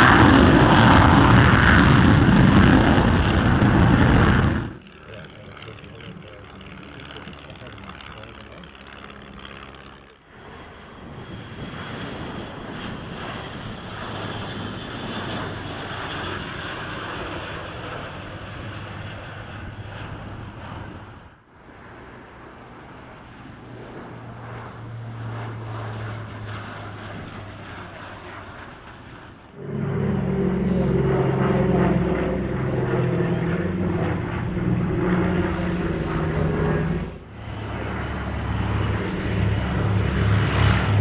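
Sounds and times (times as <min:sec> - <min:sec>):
turboprop aircraft passing low: 0:00.0 - 0:41.0
turboprop aircraft taking off: 0:00.0 - 0:41.0.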